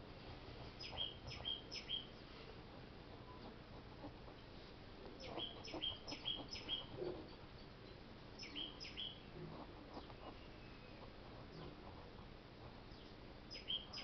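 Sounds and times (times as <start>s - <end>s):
faint bird chirping: 0.6s - 14.0s.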